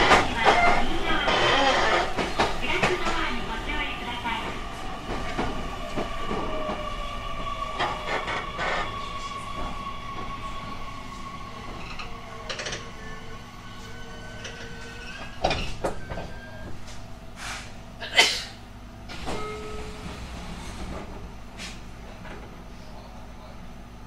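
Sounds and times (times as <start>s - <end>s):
train doors knocking and hissing: 0.0s - 13.3s, 14.4s - 22.6s
train hum: 0.0s - 24.0s.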